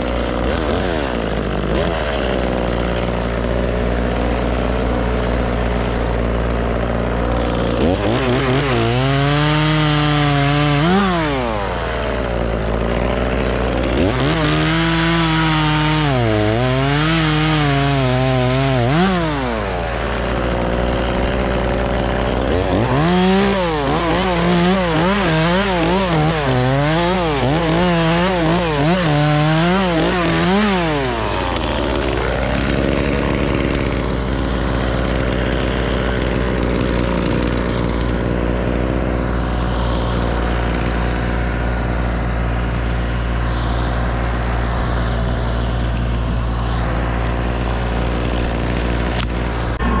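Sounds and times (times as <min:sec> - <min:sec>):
chainsaw cutting wood: 0:00.0 - 0:50.0.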